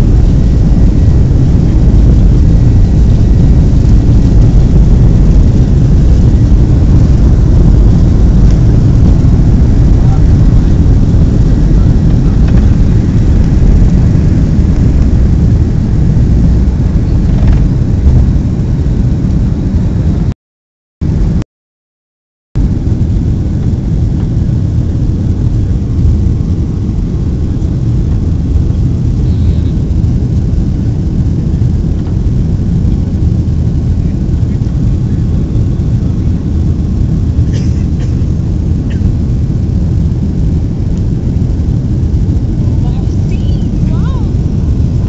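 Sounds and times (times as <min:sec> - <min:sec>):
airliner cabin engine rumble: 0:00.0 - 0:20.3, 0:21.0 - 0:21.4, 0:22.6 - 0:45.0.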